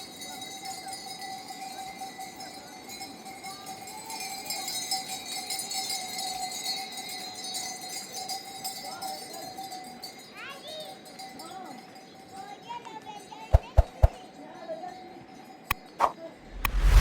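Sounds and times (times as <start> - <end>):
goat bells clinking: 0.0 - 16.0.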